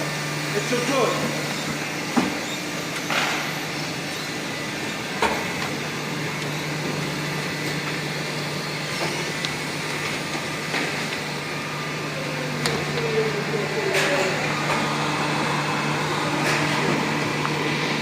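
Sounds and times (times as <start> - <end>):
packaging machine hum: 0.0 - 18.0.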